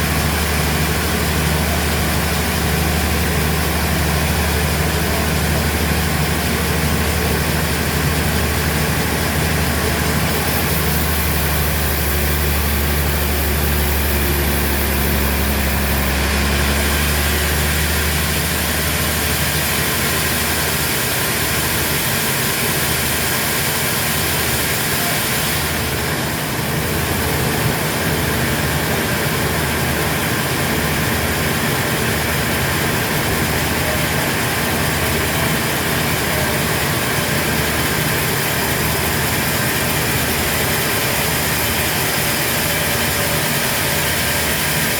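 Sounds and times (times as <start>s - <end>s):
machinery engine hum: 0.0s - 44.9s.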